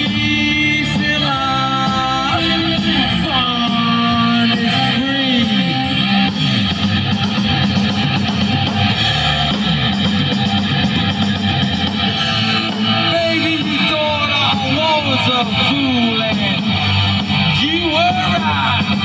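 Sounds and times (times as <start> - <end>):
drums: 0.0 - 19.0
electric guitar playing rock: 0.0 - 19.0.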